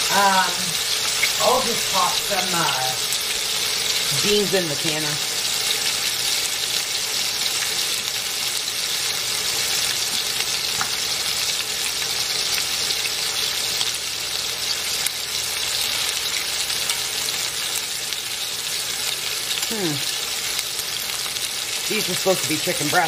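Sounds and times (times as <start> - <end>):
meat sizzling in a skillet: 0.0 - 23.0.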